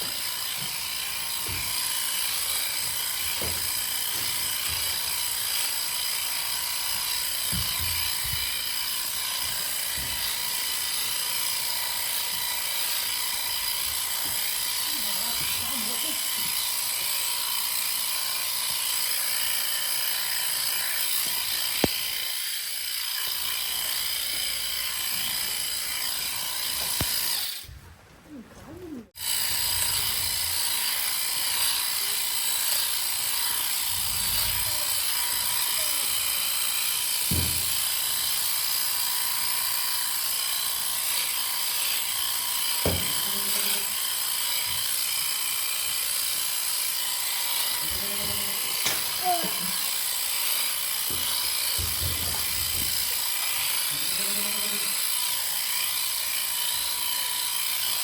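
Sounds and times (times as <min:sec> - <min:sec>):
electric sheep shears running: 0:00.0 - 0:27.8, 0:29.1 - 0:58.0.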